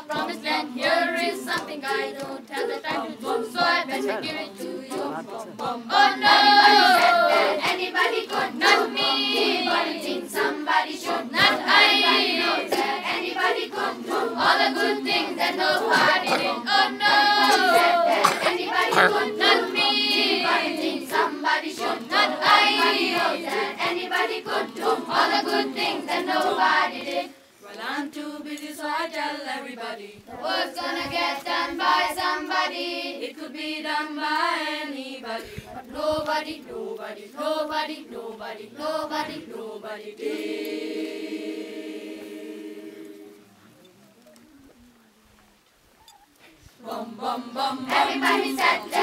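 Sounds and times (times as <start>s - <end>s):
children's choir singing: 0.0s - 43.8s, 46.7s - 49.0s.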